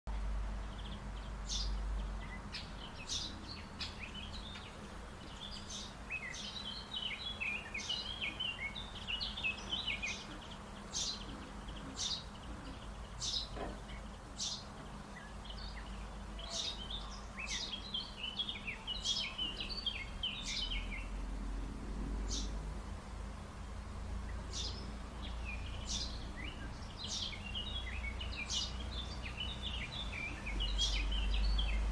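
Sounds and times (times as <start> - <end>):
songbirds chirping and twittering: 0.1 - 31.9.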